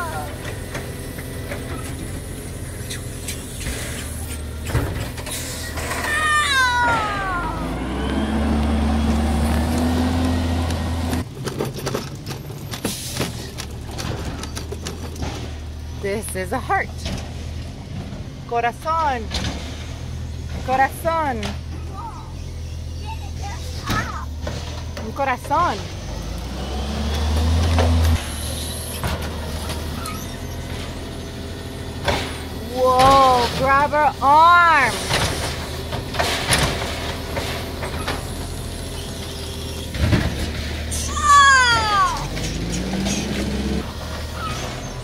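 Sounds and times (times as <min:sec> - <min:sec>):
garbage truck engine drone: 0:00.0 - 0:45.0.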